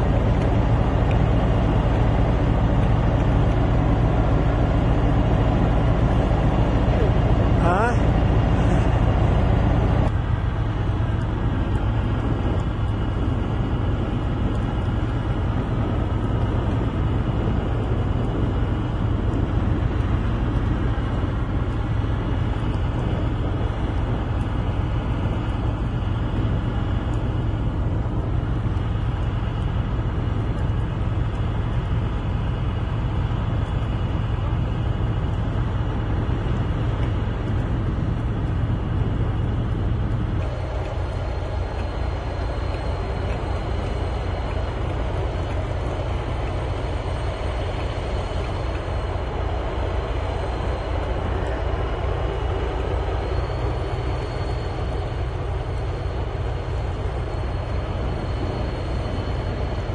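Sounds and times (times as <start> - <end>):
heavy engine rumbling: 0.0 - 59.9.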